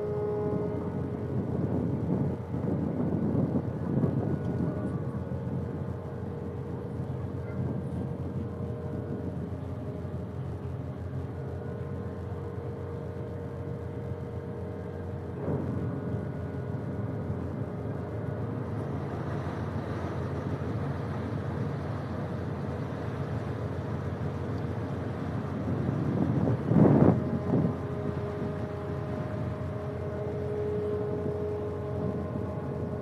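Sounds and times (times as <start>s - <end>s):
boat engine rumbling: 0.0s - 33.0s
wind buffeting microphone: 0.0s - 33.0s.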